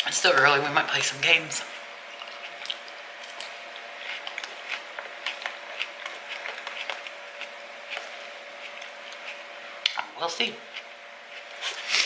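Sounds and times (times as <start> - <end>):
chewing crunchy salad: 0.0 - 12.0
faint steady hum: 0.0 - 12.0.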